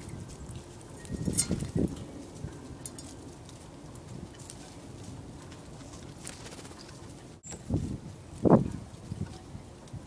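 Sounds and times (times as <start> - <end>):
low outdoor background noise: 0.0 - 10.0.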